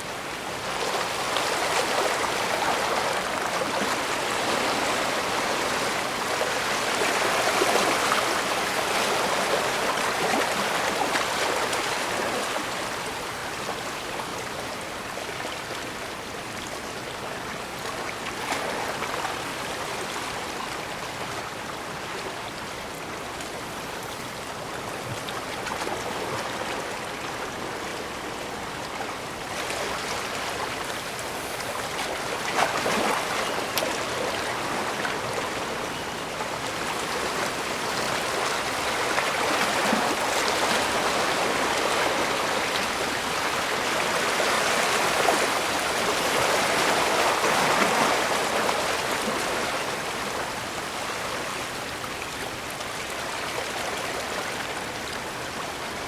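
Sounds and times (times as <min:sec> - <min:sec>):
water washing against shoreline: 0:00.0 - 0:56.0.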